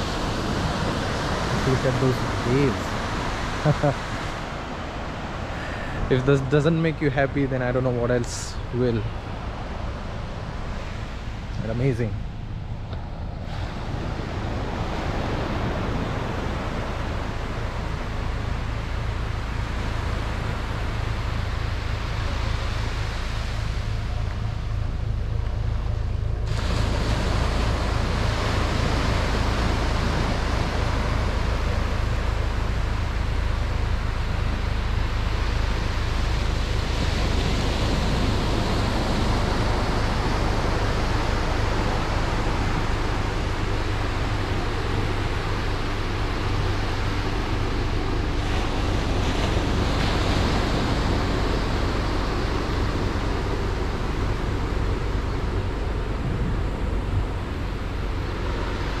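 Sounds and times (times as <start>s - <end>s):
surf breaking on beach: 0.0s - 12.4s, 13.4s - 59.0s
wind rumble on microphone: 0.0s - 59.0s.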